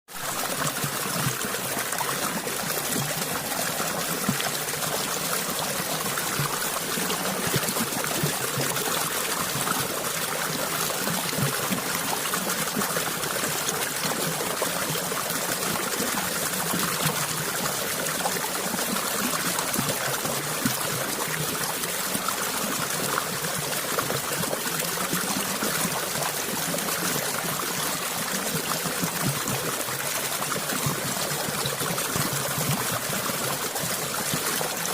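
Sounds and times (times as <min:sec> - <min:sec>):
water flowing and trickling: 0:00.1 - 0:34.9.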